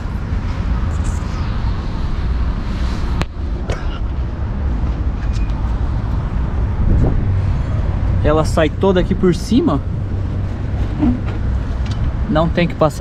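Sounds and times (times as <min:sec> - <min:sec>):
street noise: 0:00.0 - 0:13.0
wind: 0:00.0 - 0:13.0.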